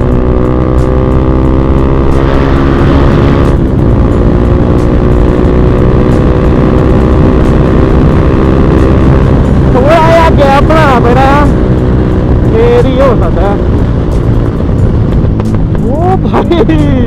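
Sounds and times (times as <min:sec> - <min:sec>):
motorcycle engine running: 0:00.0 - 0:17.0
wind noise: 0:01.9 - 0:17.0.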